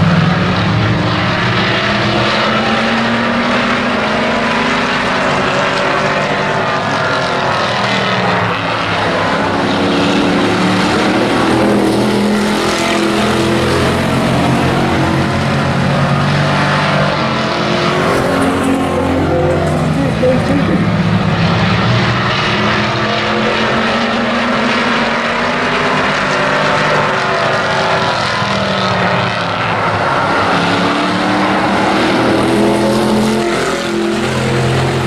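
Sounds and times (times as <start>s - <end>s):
race truck engines droning: 0.0s - 35.0s.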